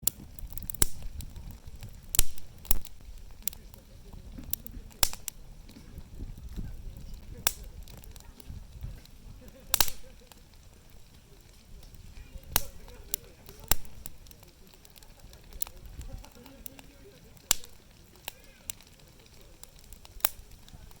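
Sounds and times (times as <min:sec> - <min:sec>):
low fire rumble: 0:00.0 - 0:21.0
sharp fire pops: 0:00.0 - 0:21.0
wood fire crackling: 0:00.0 - 0:21.0.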